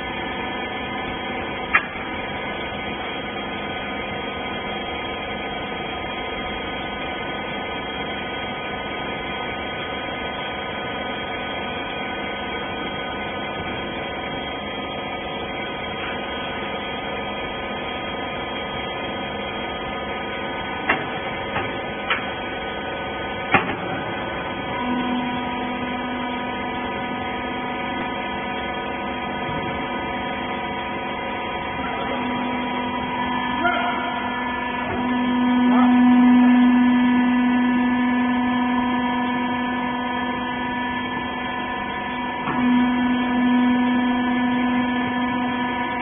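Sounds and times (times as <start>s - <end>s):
electric motor and pump humming: 0.0s - 46.0s.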